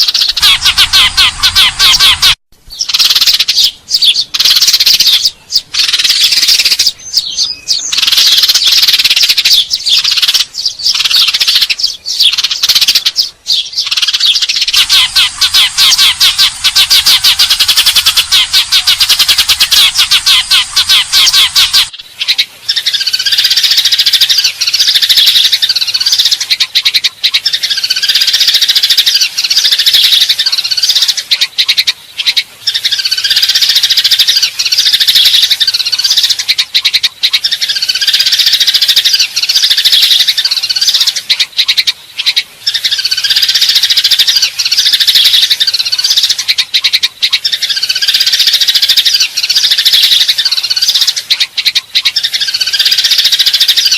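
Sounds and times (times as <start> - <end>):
sparrows chattering: 0.0 - 53.9.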